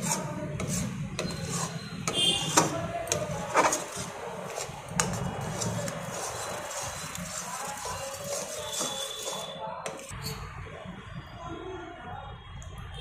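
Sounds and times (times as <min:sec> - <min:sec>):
metal spatula scraping metal pan: 0:00.0 - 0:10.4.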